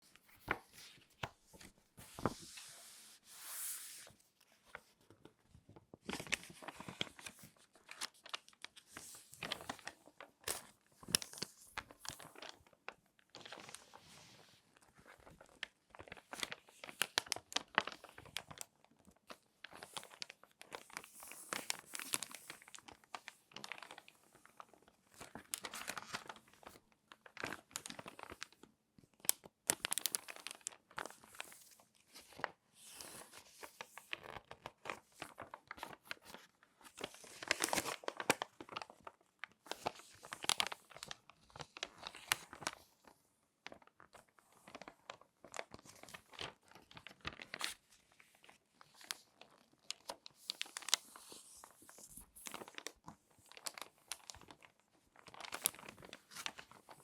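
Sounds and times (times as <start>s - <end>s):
magazine pages crackling: 0.0s - 5.0s, 6.0s - 28.6s, 29.3s - 57.0s.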